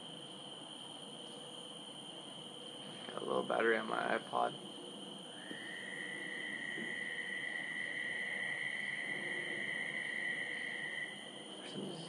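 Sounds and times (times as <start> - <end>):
frogs trilling: 2.0 - 12.0.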